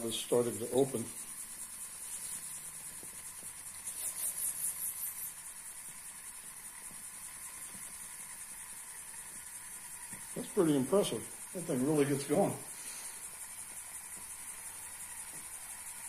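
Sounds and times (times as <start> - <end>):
steam engine hissing: 0.0 - 16.0.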